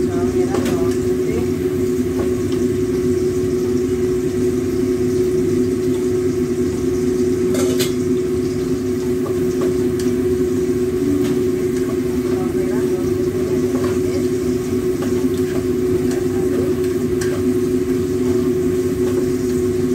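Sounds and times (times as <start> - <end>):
mechanical hum: 0.0 - 19.9.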